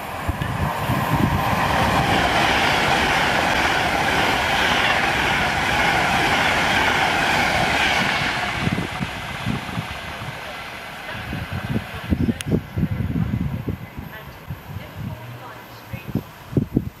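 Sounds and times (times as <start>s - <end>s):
electric train passing at speed: 0.0s - 17.0s.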